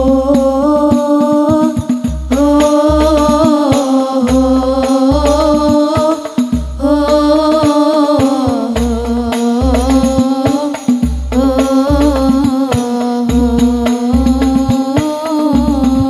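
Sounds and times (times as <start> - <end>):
bass and percussion accompaniment: 0.0 - 16.0
girls singing together: 0.0 - 16.0.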